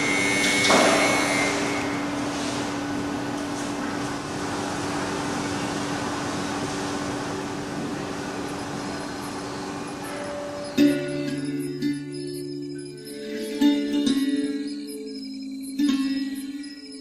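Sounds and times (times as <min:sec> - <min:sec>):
mechanical hum with hiss: 0:00.0 - 0:17.0.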